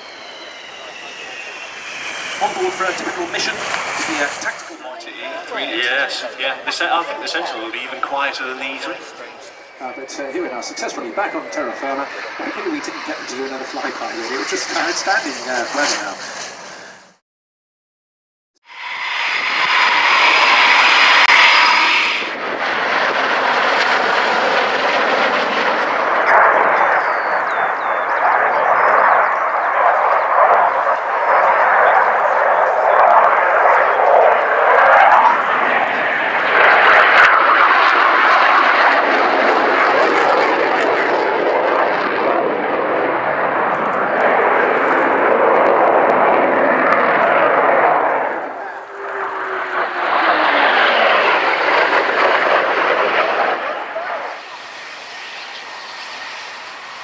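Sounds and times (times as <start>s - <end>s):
jets flying past: 0.0s - 17.2s, 18.6s - 57.0s.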